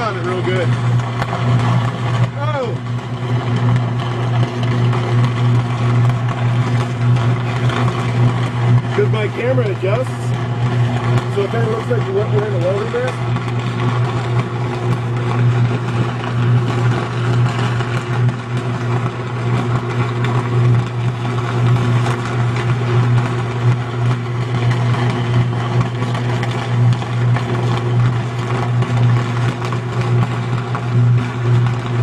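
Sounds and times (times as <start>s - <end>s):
electrical arc buzzing: 0.0s - 32.0s.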